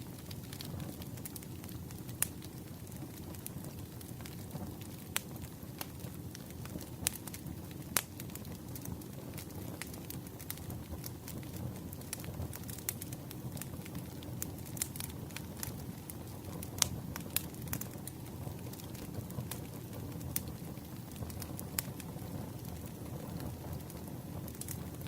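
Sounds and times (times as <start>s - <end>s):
low rumble of flames: 0.0s - 25.0s
wood crackling and popping: 0.0s - 25.0s.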